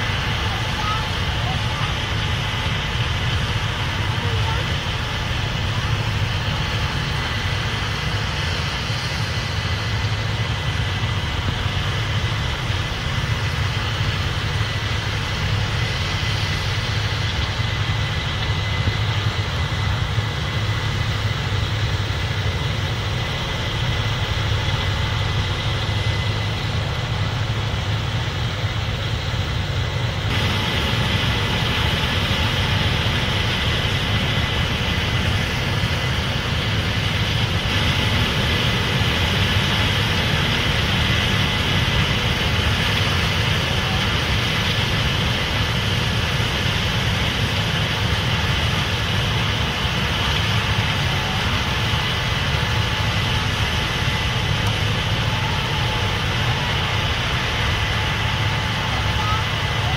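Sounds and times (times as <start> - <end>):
combine harvester engine drone: 0.0 - 59.9
harvesting machinery noise: 0.0 - 59.9.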